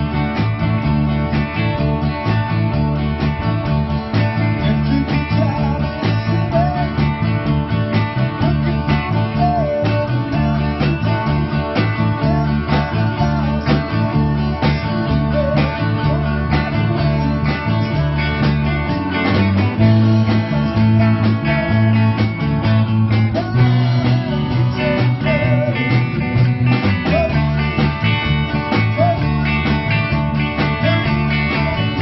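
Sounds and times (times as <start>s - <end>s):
drum kit beat: 0.0s - 32.0s
rock band playing: 0.0s - 32.0s.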